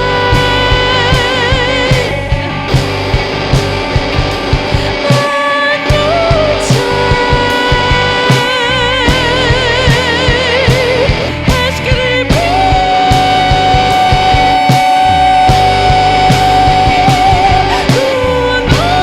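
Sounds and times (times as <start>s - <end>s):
psychedelic rock band playing: 0.0s - 19.0s.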